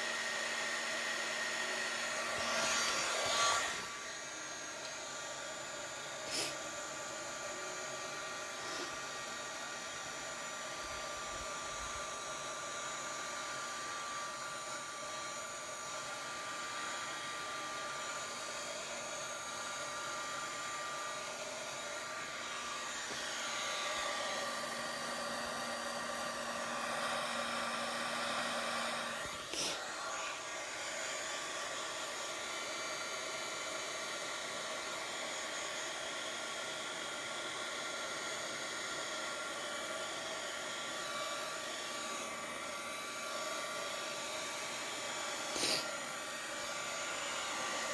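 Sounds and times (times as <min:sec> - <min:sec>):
hot-air dryer whining: 0:00.0 - 0:47.9.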